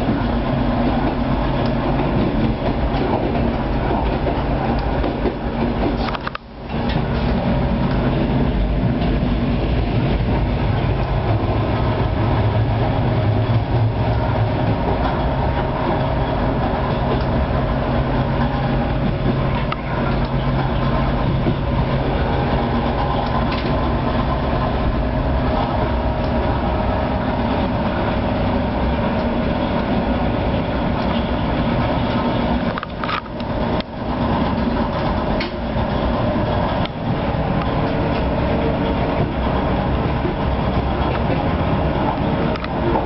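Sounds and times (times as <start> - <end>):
train cab hum and rumble: 0.0 - 43.0.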